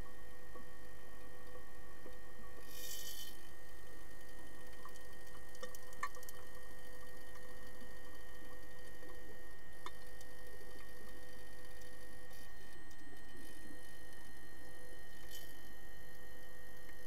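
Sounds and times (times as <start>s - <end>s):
underwater hum of fixed tones: 0.0s - 17.0s.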